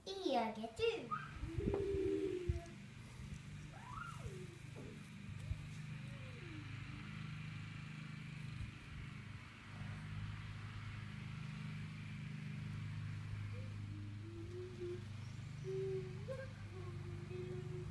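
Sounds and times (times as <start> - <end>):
motor humming: 1.1 - 17.9.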